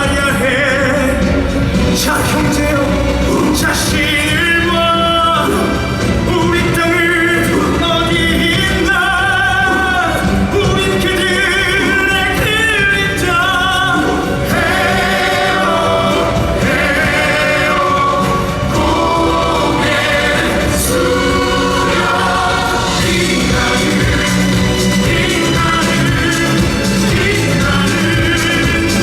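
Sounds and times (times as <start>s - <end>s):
choir singing: 0.0s - 29.0s
orchestral accompaniment: 0.0s - 29.0s
voices singing with vibrato: 0.0s - 29.0s.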